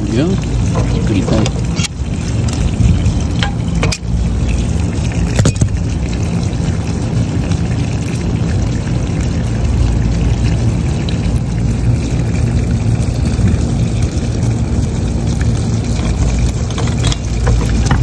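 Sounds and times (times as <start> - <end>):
low mechanical hum: 0.0 - 18.0
water pouring and splashing: 0.0 - 18.0.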